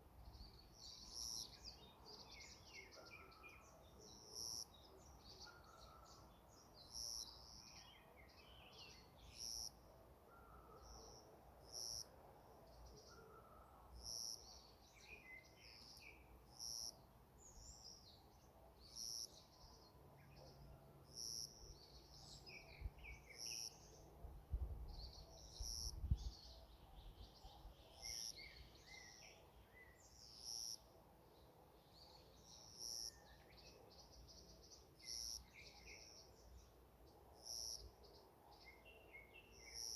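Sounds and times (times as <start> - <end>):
birds chirping softly: 0.0 - 39.9.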